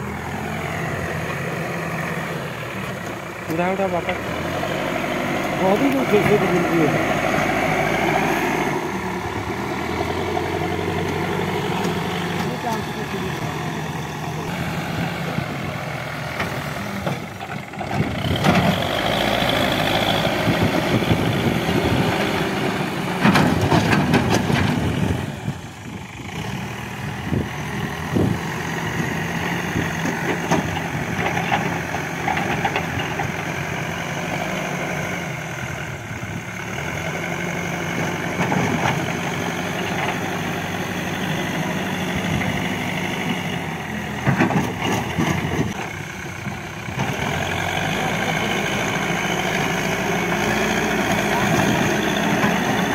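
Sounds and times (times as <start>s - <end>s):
diesel engine working: 0.0s - 52.9s.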